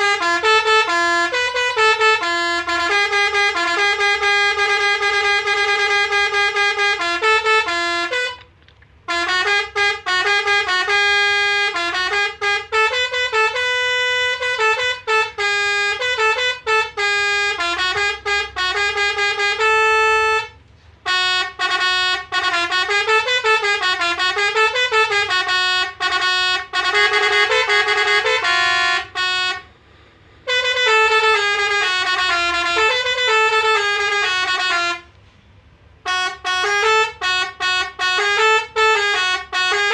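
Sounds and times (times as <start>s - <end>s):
musical air horn melodies: 0.0s - 39.9s.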